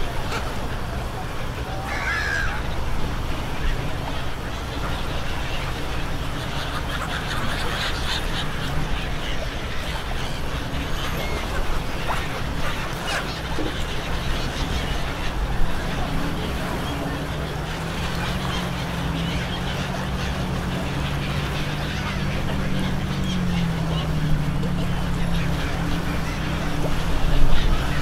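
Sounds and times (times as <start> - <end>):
low engine hum: 0.0 - 28.0
people chattering: 0.0 - 28.0
seagulls calling: 0.0 - 28.0.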